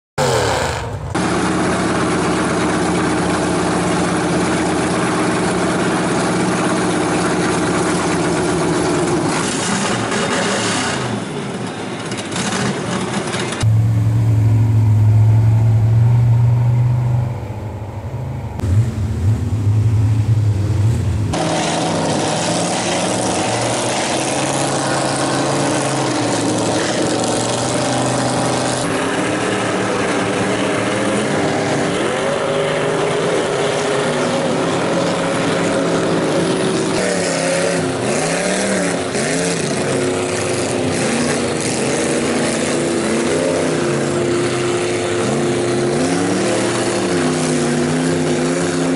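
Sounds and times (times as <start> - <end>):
mud truck engines revving: 0.2 - 48.9.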